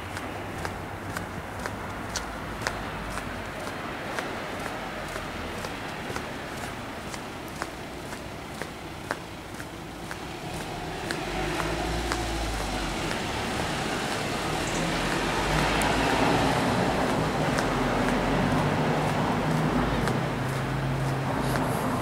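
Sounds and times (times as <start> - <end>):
tyres on cobblestones: 0.0 - 22.0
vehicle engine hum: 0.0 - 22.0.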